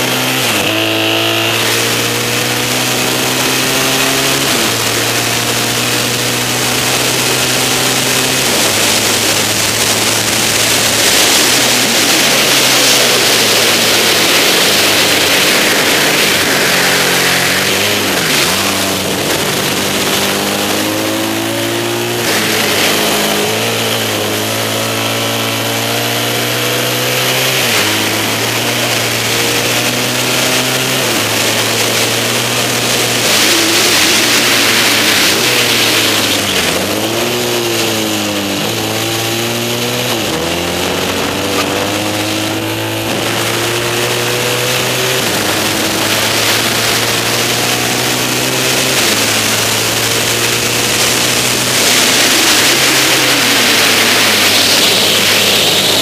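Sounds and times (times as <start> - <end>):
motorcycle engine running hard: 0.0 - 56.0
wind rush: 0.3 - 56.0.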